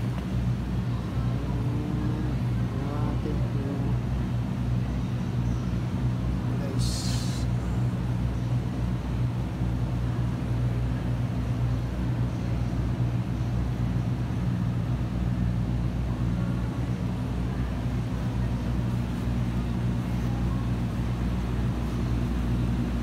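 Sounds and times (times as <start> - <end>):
workshop machinery humming: 0.0 - 23.0.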